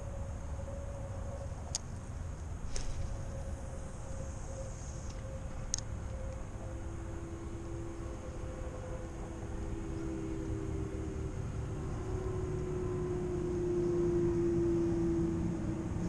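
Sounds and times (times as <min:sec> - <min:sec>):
distant engine drone: 0:00.0 - 0:16.0
steady low rumble: 0:00.0 - 0:16.0.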